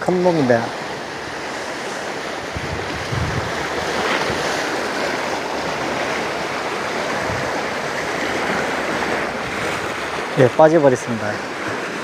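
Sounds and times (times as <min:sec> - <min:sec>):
sea waves washing against rocks: 0:00.0 - 0:12.0
wind buffeting the microphone: 0:01.0 - 0:11.9.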